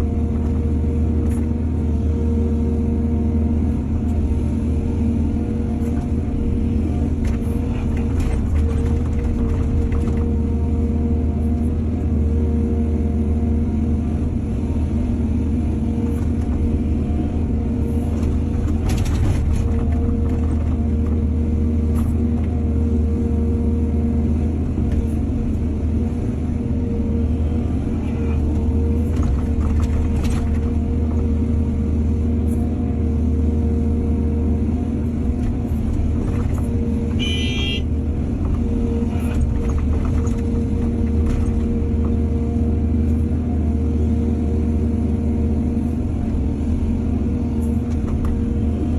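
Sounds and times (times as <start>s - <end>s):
heavy diesel machinery rumbling: 0.0s - 48.9s.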